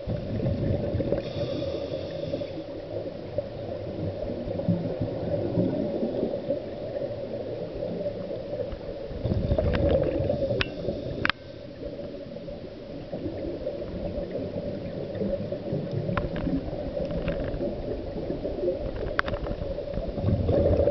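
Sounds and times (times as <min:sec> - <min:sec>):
regulator bubbles gurgling: 0:00.0 - 0:20.9.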